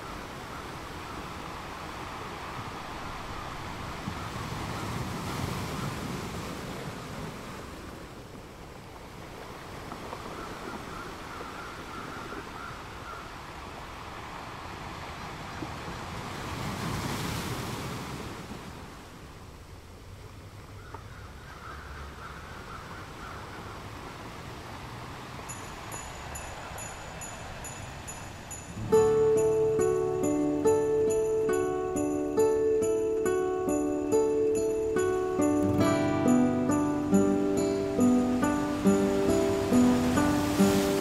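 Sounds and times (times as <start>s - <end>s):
ocean waves washing in: 0.0s - 19.7s, 23.8s - 41.0s.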